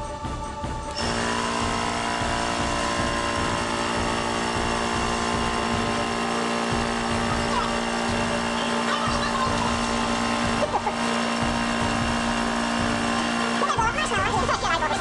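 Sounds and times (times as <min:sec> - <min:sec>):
vacuum pump motor humming: 0:00.0 - 0:15.0.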